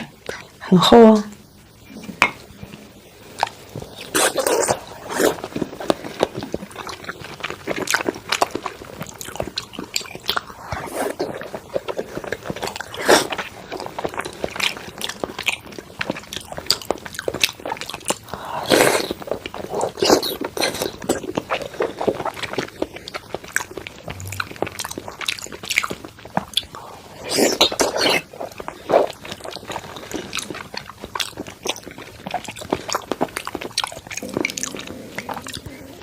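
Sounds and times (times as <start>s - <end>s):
biting and chewing: 3.4s - 36.0s.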